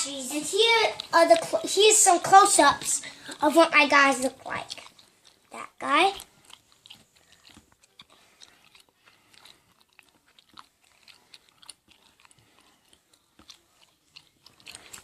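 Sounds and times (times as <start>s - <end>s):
faint clicks and crackles: 0.0s - 15.0s.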